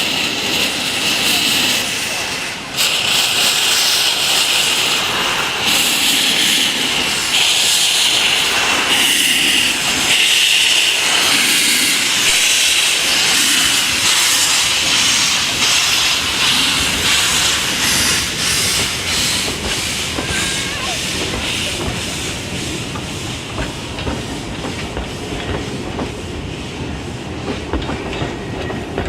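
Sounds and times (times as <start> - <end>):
steam locomotive hissing: 0.0 - 29.0.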